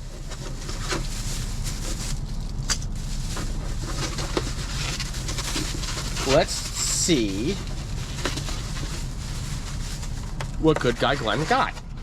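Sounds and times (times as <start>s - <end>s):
packaging rustling: 0.0s - 11.8s
steady low hum: 0.0s - 12.0s.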